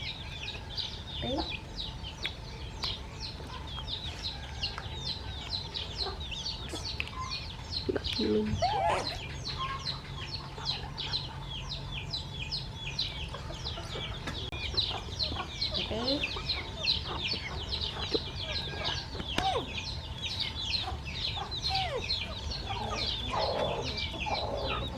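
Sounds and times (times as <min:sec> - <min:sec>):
baby birds cheeping: 0:00.0 - 0:24.9.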